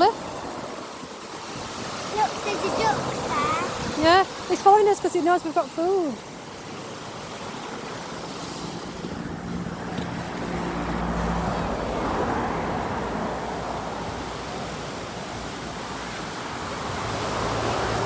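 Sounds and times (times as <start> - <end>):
water rushing over a weir: 0.0 - 18.0.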